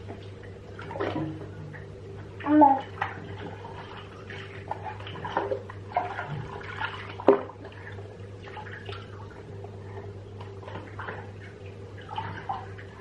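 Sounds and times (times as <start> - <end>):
steady low hum: 0.0 - 13.0
water splashing in bathtub: 0.0 - 13.0.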